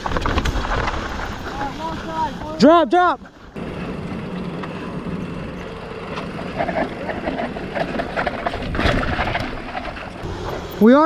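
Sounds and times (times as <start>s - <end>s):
bike chain and frame rattling: 0.0s - 11.0s.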